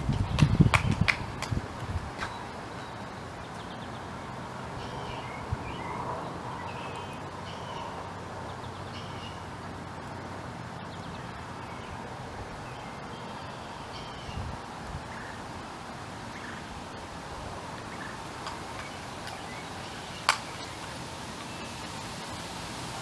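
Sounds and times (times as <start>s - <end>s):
small birds chirping: 0.0s - 1.2s, 2.2s - 15.4s, 17.8s - 22.4s.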